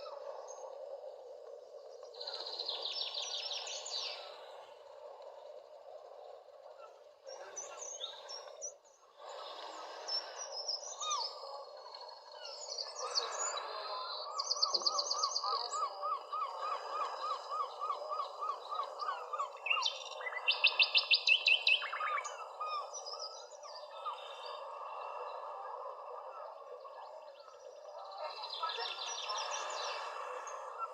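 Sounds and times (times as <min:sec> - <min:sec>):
birds singing and calling: 0:02.1 - 0:04.7, 0:06.8 - 0:25.5, 0:26.2 - 0:30.9.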